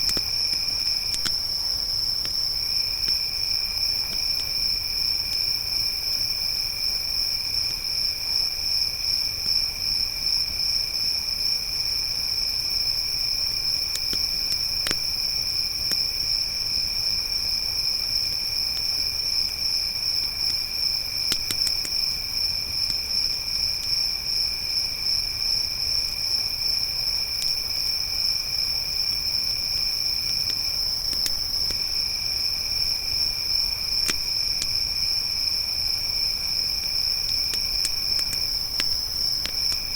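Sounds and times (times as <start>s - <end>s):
campfire crackles: 0.0s - 39.9s
crickets trilling: 0.0s - 39.9s.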